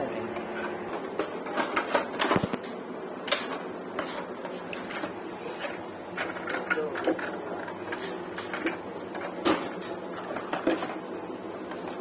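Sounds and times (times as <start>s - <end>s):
clicks and knocks of handled parts: 0.9s - 11.0s.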